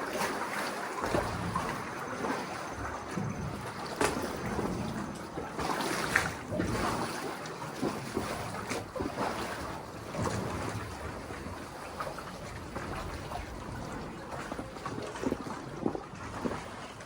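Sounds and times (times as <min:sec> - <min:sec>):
water lapping around a boat: 0:00.0 - 0:17.0.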